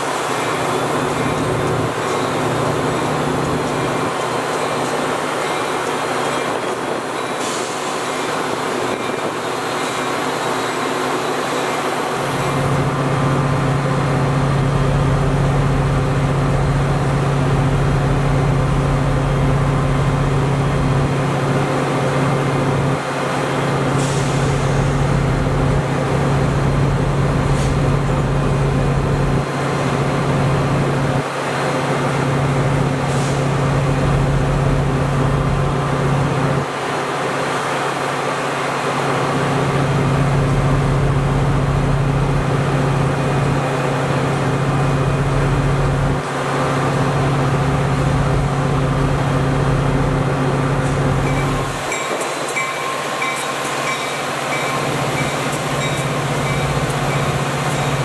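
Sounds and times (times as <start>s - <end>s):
elevated train rumbling on steel track: 0.0s - 58.0s.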